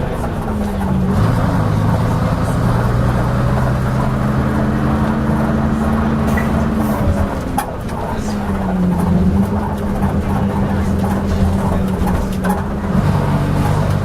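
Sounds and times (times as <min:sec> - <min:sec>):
bus diesel engine running: 0:00.0 - 0:14.0
bus rumbling and rattling: 0:00.0 - 0:14.0.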